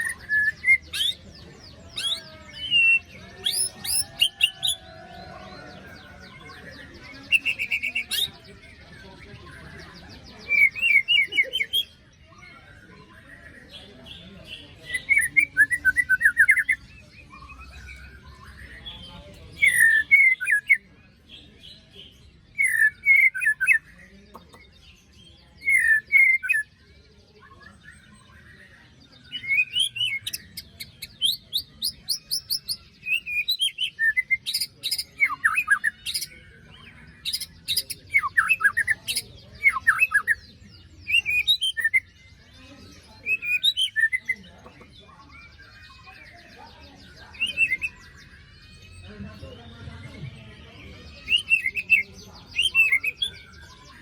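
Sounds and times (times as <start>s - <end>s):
bird singing rasping notes: 0.0s - 12.0s, 13.3s - 26.8s, 29.0s - 42.3s, 42.9s - 49.7s, 51.1s - 54.0s.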